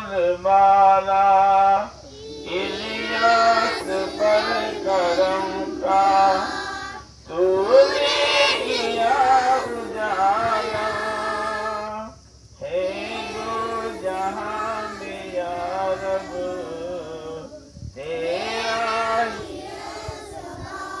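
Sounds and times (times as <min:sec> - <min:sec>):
children singing in unison: 0:02.0 - 0:21.0.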